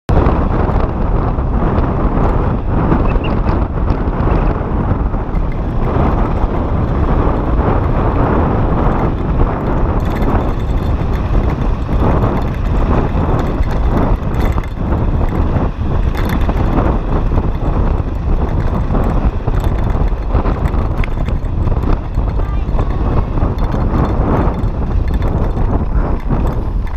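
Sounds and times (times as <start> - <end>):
bike clattering on loose ground: 0.1 - 26.9
wind buffeting microphone: 0.1 - 26.9.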